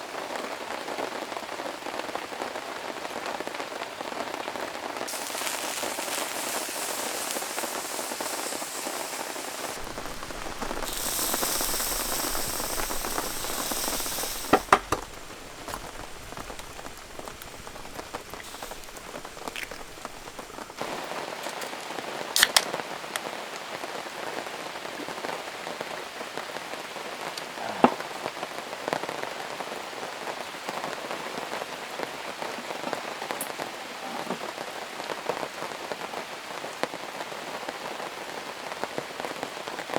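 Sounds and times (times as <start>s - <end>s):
heavy rain hissing: 0.0s - 37.6s.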